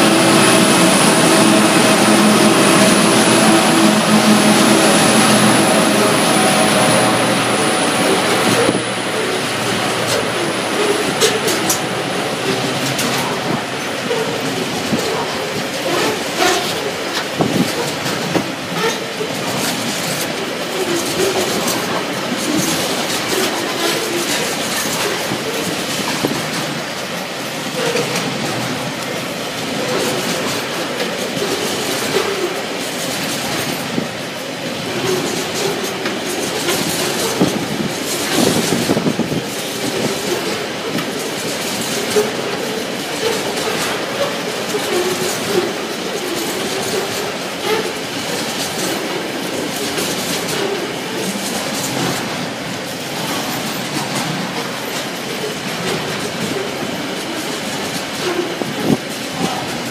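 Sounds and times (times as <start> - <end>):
freight train wheels clattering: 0.0 - 59.9
wheels squealing: 0.0 - 59.9.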